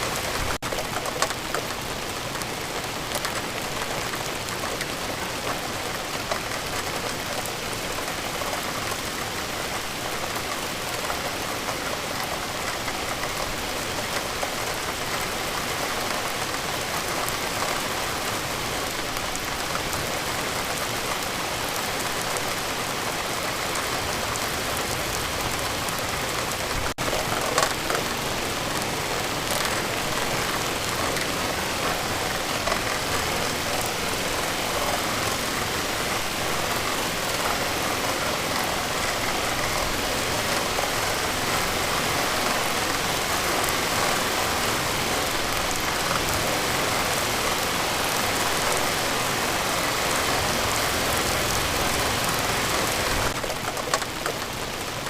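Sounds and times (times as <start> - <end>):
heavy rain hiss: 0.0 - 55.0
raindrop ticks: 0.1 - 49.1, 49.9 - 55.0.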